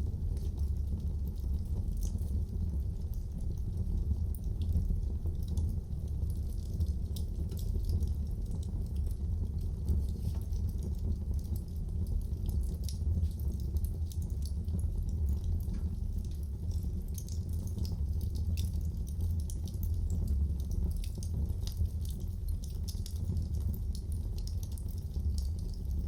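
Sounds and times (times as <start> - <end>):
fire popping and snapping: 0.0 - 26.0
low rumble of flames: 0.0 - 26.0.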